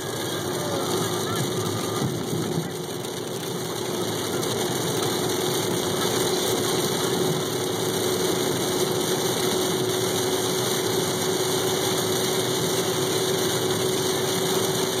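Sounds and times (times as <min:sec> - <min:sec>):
car engine: 0:00.0 - 0:15.0
rain: 0:00.0 - 0:15.0
tyres on wet road: 0:00.0 - 0:15.0.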